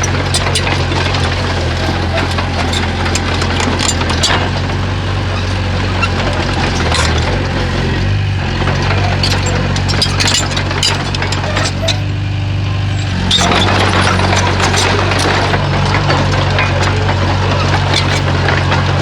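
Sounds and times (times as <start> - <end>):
bulldozer diesel engine running: 0.0 - 19.0
machine clanks and knocks: 0.0 - 19.0.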